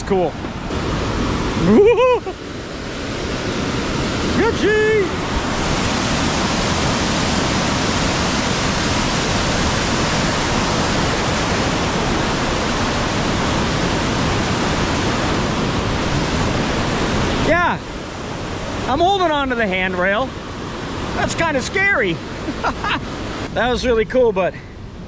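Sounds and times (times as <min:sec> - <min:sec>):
water rushing through spillway: 0:00.0 - 0:24.5.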